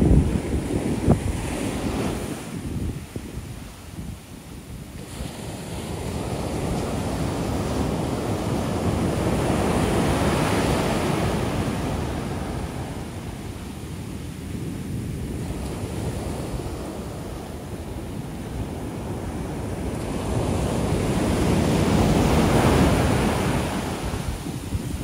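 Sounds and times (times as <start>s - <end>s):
wave crashing on beach: 0.0s - 25.0s.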